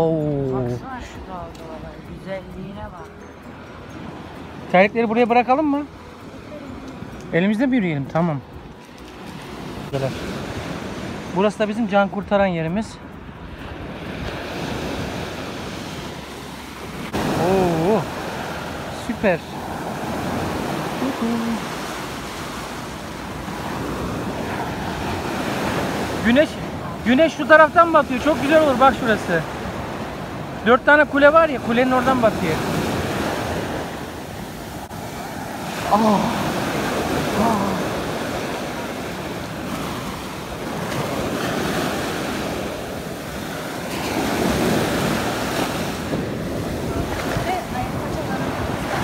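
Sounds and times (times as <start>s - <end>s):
sea waves washing onto beach: 0.0s - 49.0s.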